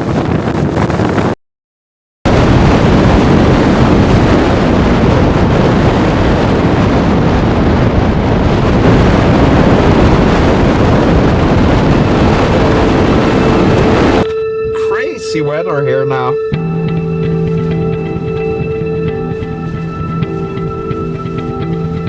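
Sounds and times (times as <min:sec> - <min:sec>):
wind buffeting microphone: 0:00.0 - 0:01.4, 0:02.3 - 0:15.3, 0:16.5 - 0:22.0.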